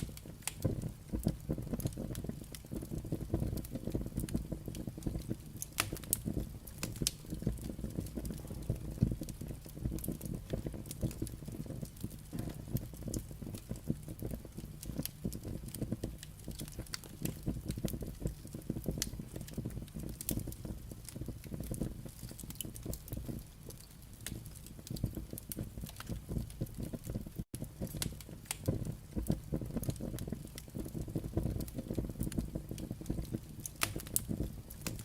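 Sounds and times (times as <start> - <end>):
firewood crackling and popping: 0.0 - 35.0
low rumble of flames: 0.0 - 35.0.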